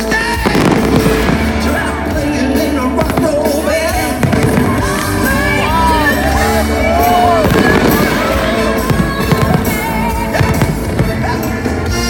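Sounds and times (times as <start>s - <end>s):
fireworks bursting and crackling: 0.0s - 12.0s
loud music: 0.0s - 12.0s.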